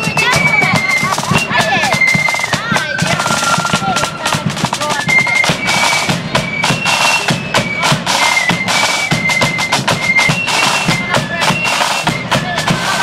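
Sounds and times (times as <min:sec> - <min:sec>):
bass drum beats: 0:00.0 - 0:13.0
high flutes playing: 0:00.0 - 0:13.0
snare drumming: 0:00.0 - 0:13.0.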